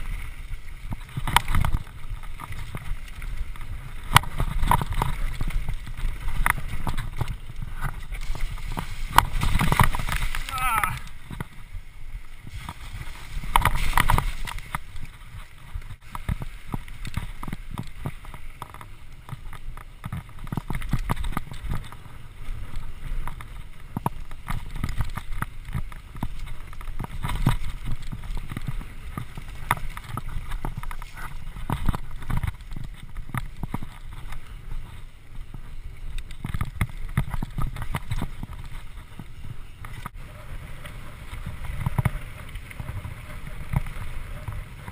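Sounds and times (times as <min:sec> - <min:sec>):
bike rattling over bumps: 0:00.0 - 0:44.9
tyres and wind rumbling: 0:00.0 - 0:44.9.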